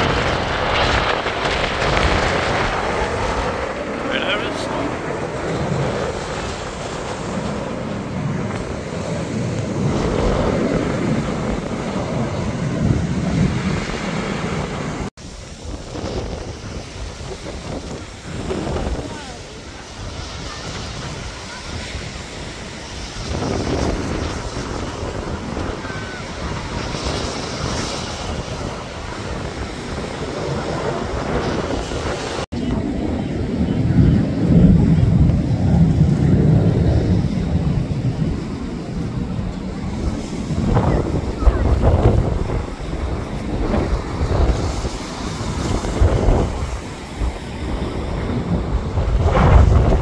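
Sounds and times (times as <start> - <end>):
distant jets: 0.0 - 50.0
surf: 0.0 - 50.0
wind on microphone: 0.0 - 50.0.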